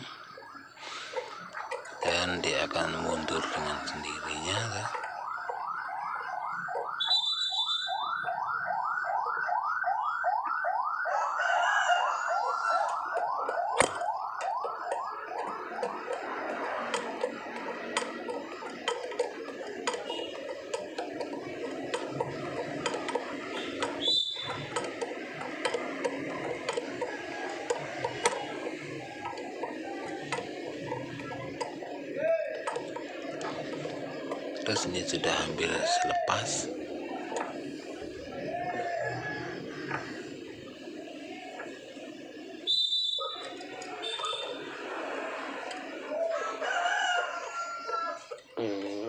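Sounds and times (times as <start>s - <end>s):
electronic siren yelping: 0.0s - 48.6s.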